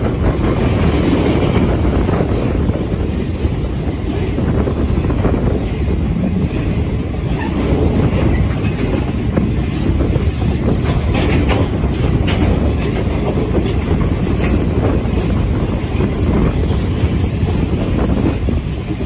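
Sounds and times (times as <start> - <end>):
train wheels rumbling on rails: 0.0 - 19.0
wheels clacking over rail joints: 0.0 - 19.0.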